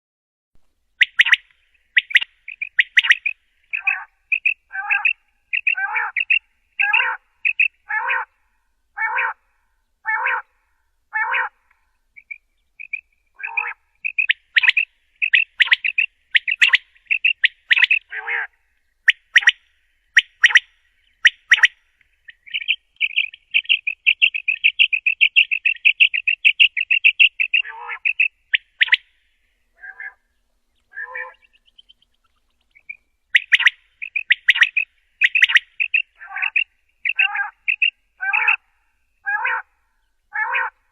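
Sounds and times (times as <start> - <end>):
quail calling: 1.0 - 8.4, 9.0 - 9.4, 10.0 - 29.1, 29.7 - 40.9.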